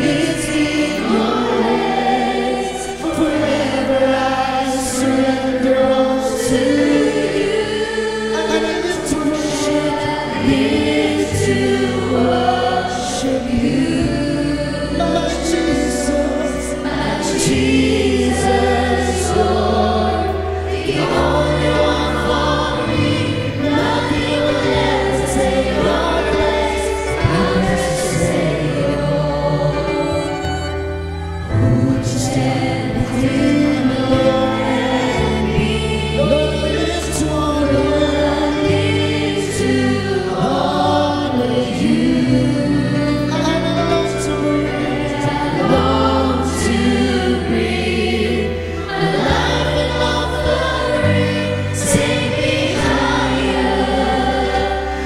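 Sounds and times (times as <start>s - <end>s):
group of singers singing: 0.0s - 55.0s
keyboard guitars and bass: 0.0s - 55.0s.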